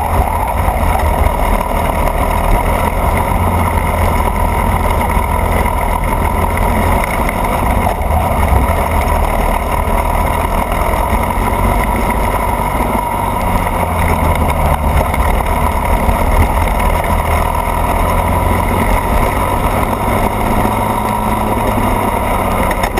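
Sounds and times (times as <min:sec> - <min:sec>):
racing kart engine: 0:00.0 - 0:22.9.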